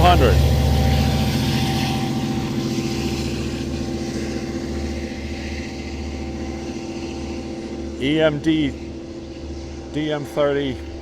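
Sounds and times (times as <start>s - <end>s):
locomotive diesel engine humming: 0.0s - 11.0s.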